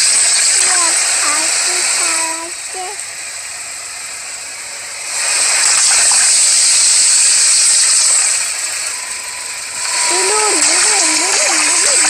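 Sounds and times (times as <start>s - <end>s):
water gushing and spraying: 0.0s - 12.0s.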